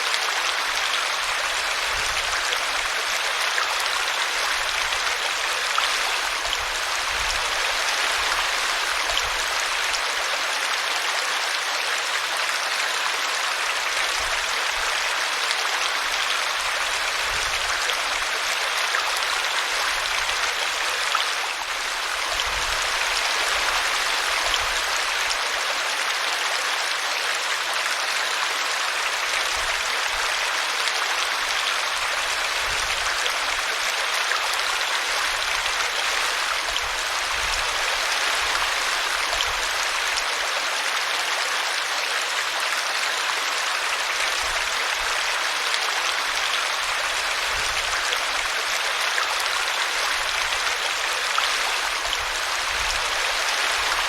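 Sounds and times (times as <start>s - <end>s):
brook flowing over a root: 0.0s - 54.0s.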